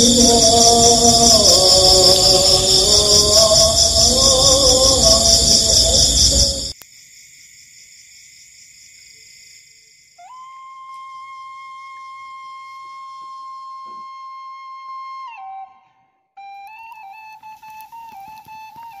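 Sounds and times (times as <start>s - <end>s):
flute holding long note: 0.0s - 6.8s, 10.2s - 19.0s.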